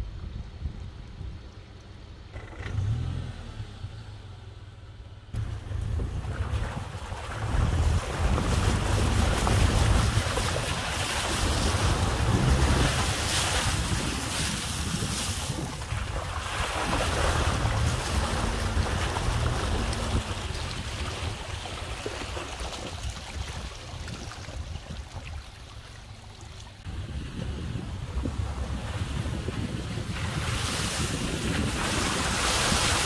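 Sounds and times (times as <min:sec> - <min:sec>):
wind buffeting microphone: 0:05.3 - 0:26.2, 0:26.8 - 0:33.0
floodwater rushing: 0:05.4 - 0:33.0.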